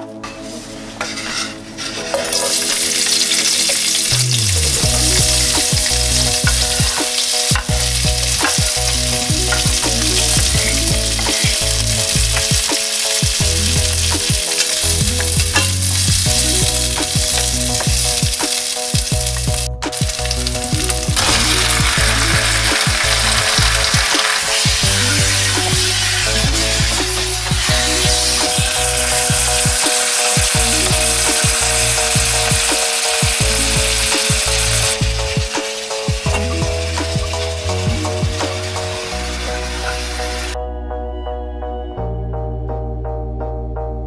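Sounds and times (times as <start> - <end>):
background music: 0.0 - 44.0
food sizzling in hot oil: 1.1 - 40.6.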